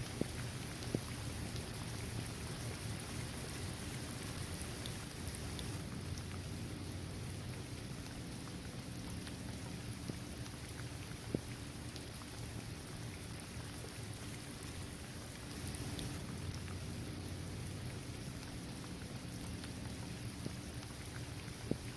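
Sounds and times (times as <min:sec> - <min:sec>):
raindrops ticking: 0:00.0 - 0:21.9
steady rain falling: 0:00.0 - 0:21.9.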